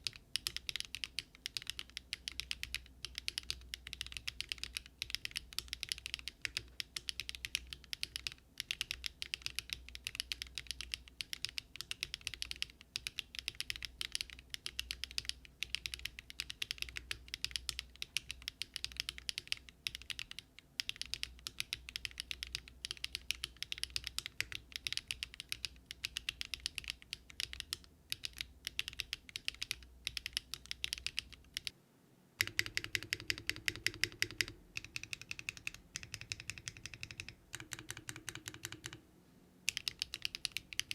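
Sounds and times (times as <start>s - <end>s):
fast mechanical keyboard typing: 0.0s - 31.7s, 32.4s - 39.0s, 39.7s - 40.9s.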